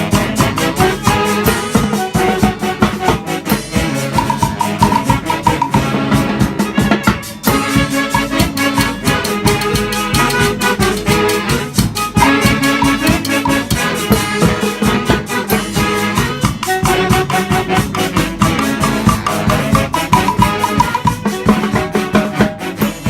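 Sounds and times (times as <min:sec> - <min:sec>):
bass: 0:00.0 - 0:23.0
brass section playing riffs: 0:00.0 - 0:23.0
latin percussion: 0:00.0 - 0:23.0.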